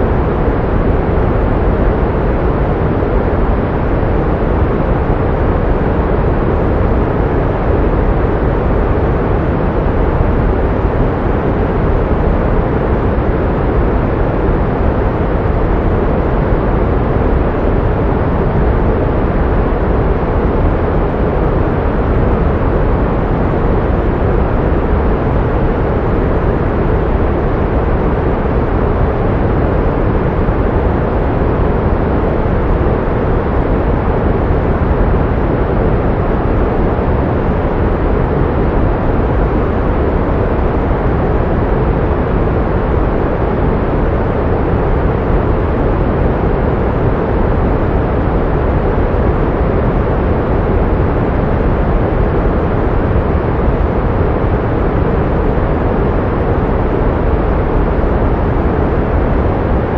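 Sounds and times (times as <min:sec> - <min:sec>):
pink noise: 0:00.0 - 0:59.9.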